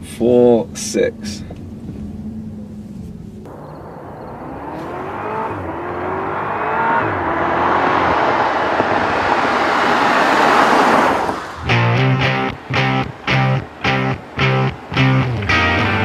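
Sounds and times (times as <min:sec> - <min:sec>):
tyre and road noise: 0:00.0 - 0:16.0
car engine accelerating hard: 0:01.2 - 0:16.0.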